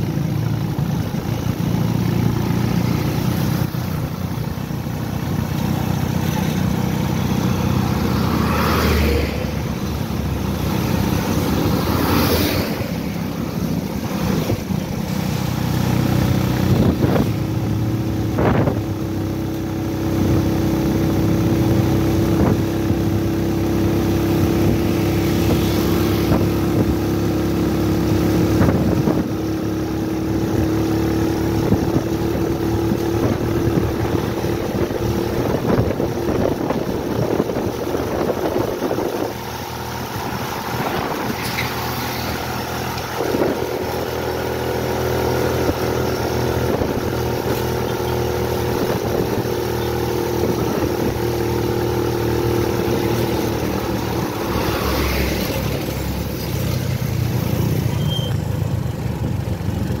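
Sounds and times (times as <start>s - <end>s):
vehicle engine and road noise: 0.0s - 60.0s.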